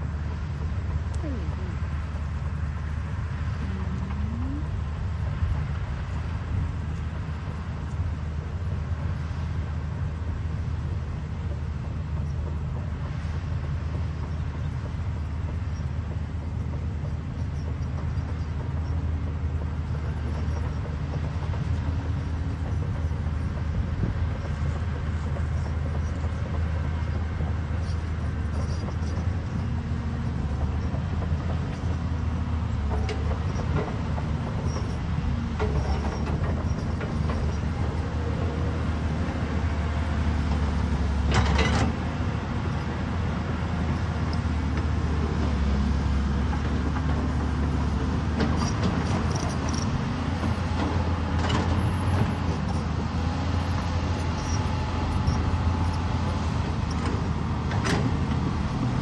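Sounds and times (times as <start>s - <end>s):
diesel engine low rumble: 0.0s - 59.0s.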